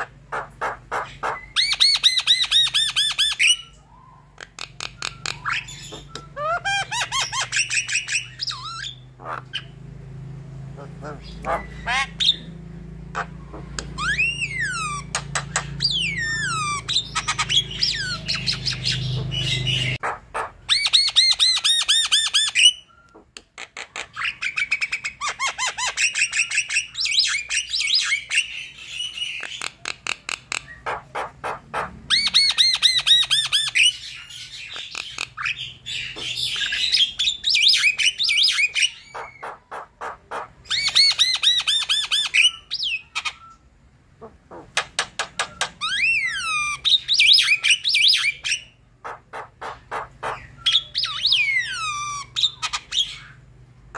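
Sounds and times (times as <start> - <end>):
harsh bird squawks: 0.0 - 9.8, 10.8 - 43.6, 44.2 - 53.5
myna bird singing: 0.0 - 53.9.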